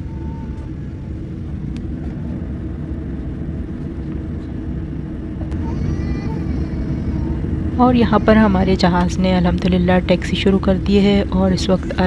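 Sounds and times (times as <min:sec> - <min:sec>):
airliner cabin engine rumble: 0:00.0 - 0:12.0
faint steady hum: 0:00.0 - 0:12.0.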